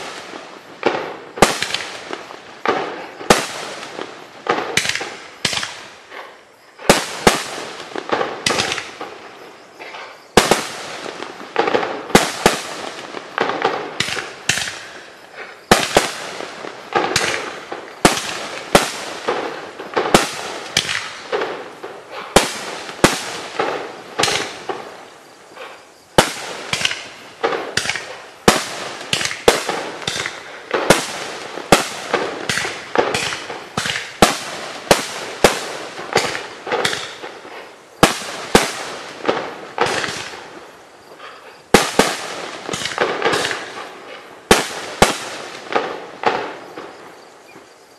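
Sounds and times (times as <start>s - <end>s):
fireworks launching and bursting: 0.0s - 47.2s.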